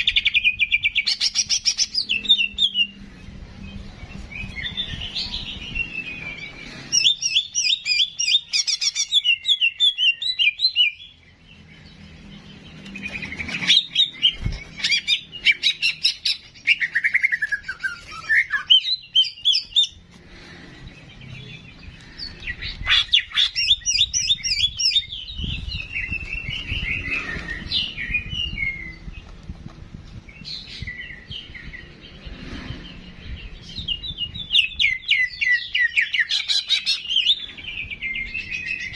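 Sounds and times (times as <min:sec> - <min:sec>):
songbird chirping and trilling: 0:00.0 - 0:38.9.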